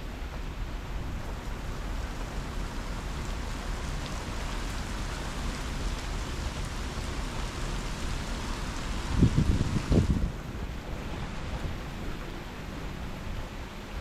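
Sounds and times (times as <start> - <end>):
heavy rain falling: 0.0 - 14.0
strong wind: 0.0 - 14.0.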